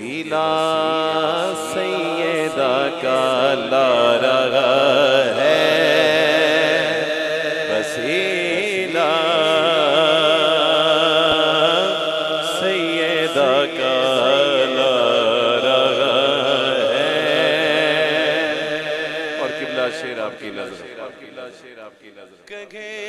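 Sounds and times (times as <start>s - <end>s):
man singing through pa system: 0.0s - 23.0s.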